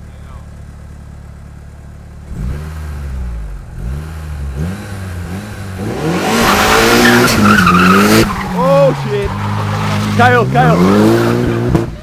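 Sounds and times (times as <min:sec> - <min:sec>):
car engine revving: 0:00.3 - 0:12.0.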